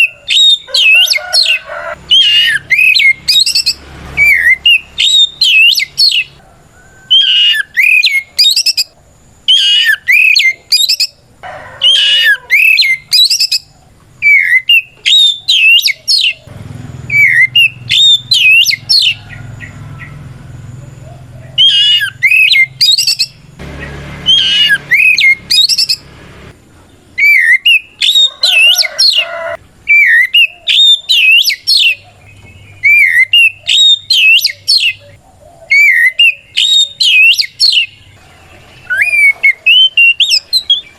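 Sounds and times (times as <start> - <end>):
bird singing whistled notes: 0.0 - 11.2, 11.9 - 16.5, 17.1 - 20.2, 21.6 - 23.4, 24.2 - 26.0, 27.2 - 28.8, 29.9 - 40.9.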